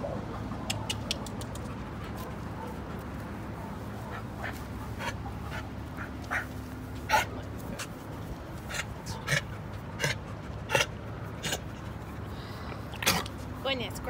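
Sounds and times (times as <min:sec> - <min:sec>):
dog panting: 0:00.3 - 0:13.4.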